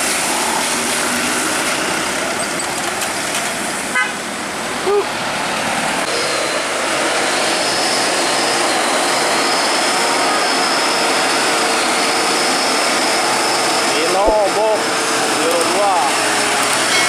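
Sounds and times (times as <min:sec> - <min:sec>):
truck driving by: 0:00.0 - 0:17.0.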